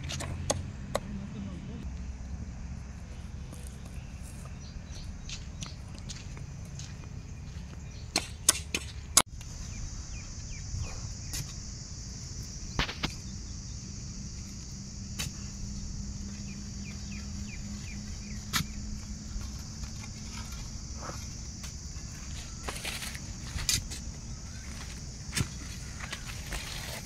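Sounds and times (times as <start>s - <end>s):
high insect drone: 0.0s - 27.0s.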